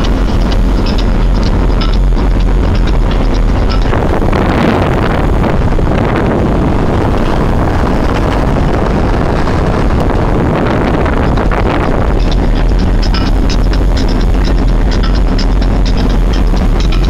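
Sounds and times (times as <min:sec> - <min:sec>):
road noise: 0:00.0 - 0:17.0
wind rushing over microphone: 0:00.0 - 0:17.0.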